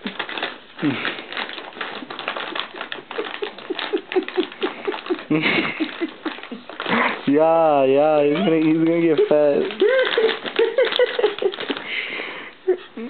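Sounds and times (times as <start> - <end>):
dog crunching a treat: 0.0 - 12.2.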